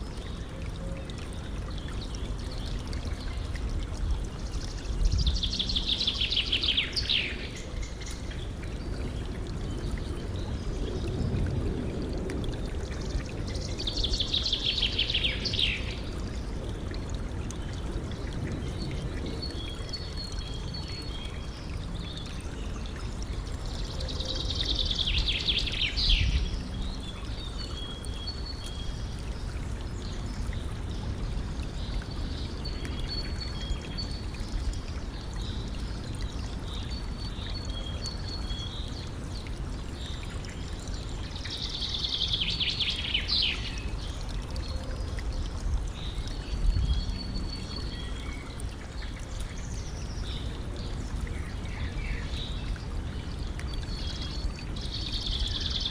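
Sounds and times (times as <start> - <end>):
stream flowing: 0.0 - 55.9
small birds singing: 0.2 - 11.2, 12.9 - 16.7, 17.5 - 55.9.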